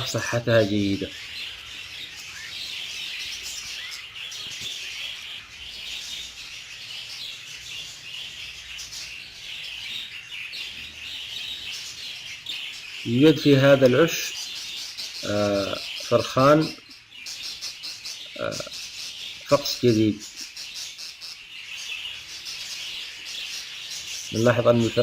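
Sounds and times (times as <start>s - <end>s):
budgerigars chattering and chirping: 0.0s - 25.0s.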